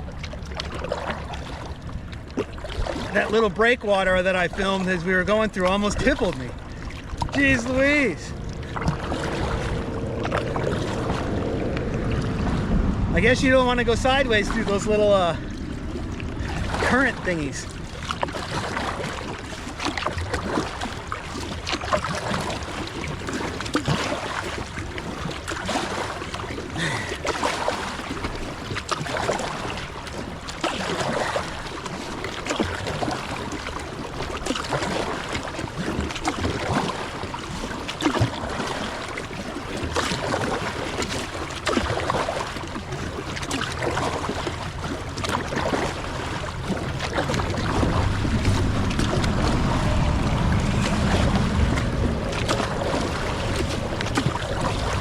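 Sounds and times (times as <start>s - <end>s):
kayak paddle splashes: 0.0s - 55.0s
river current rushing: 2.6s - 55.0s.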